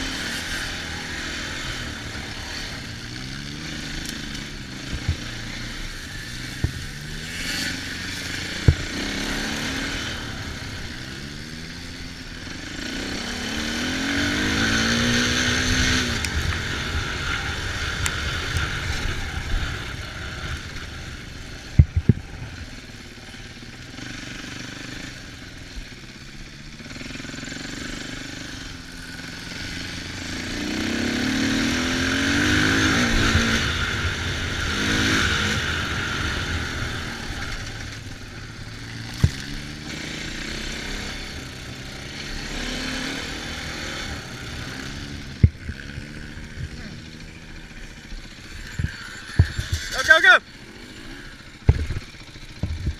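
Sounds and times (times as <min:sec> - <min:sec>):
engine revving: 0:00.0 - 0:52.9.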